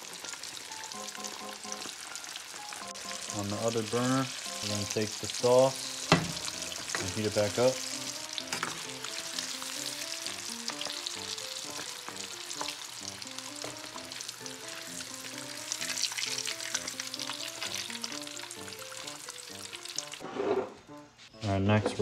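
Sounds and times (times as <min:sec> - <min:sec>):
hot oil sizzling: 0:00.0 - 0:20.2
soft background music: 0:00.0 - 0:22.0.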